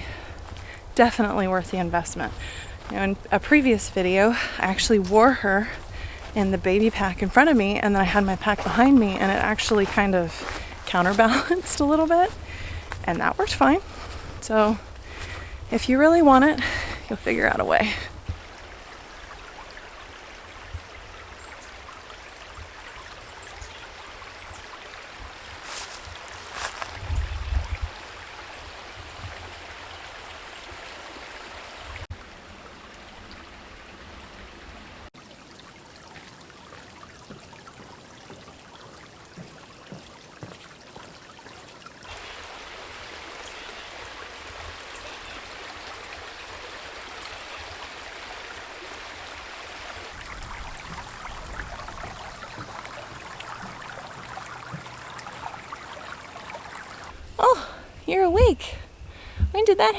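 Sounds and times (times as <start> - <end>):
stream water rushing: 0.0 - 58.6.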